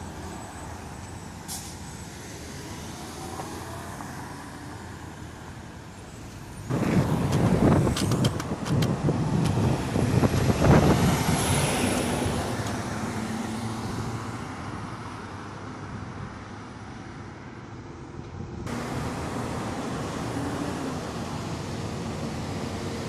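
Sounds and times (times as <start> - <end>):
truck engine and tyre noise: 0.0 - 23.0.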